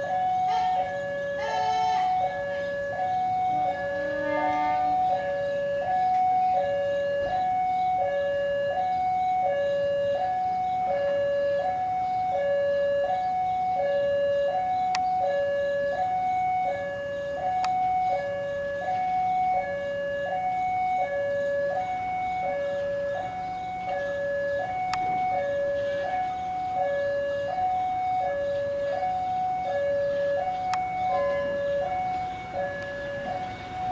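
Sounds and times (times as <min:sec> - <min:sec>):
two-tone railway warning alarm: 0:00.0 - 0:33.9.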